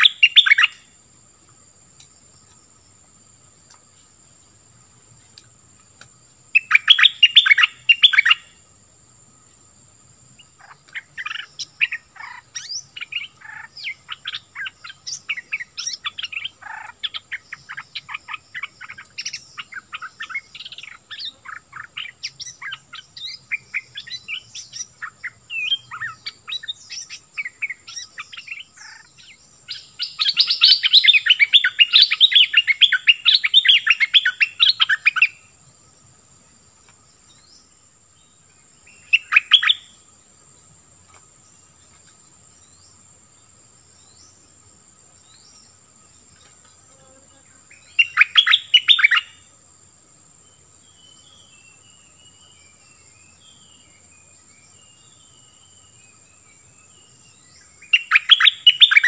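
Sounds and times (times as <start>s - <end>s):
bird singing: 0.0s - 3.1s, 5.3s - 49.6s, 50.2s - 59.0s.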